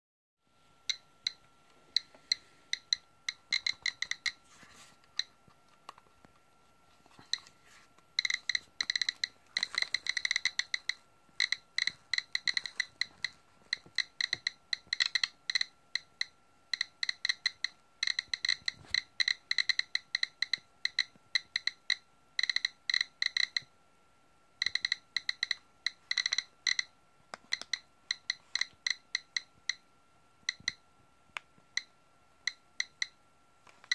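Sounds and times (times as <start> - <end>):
geiger counter clicking: 0.8 - 6.4, 7.1 - 23.8, 24.6 - 33.9.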